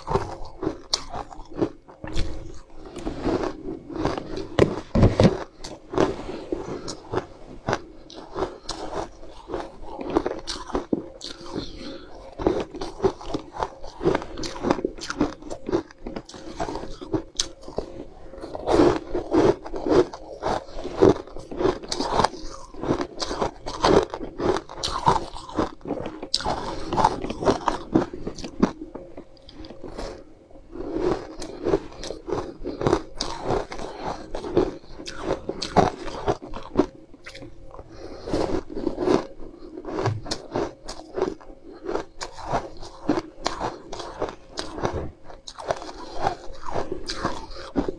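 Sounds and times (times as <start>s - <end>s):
ice crunching in mouth: 0.0s - 30.2s, 30.8s - 47.9s.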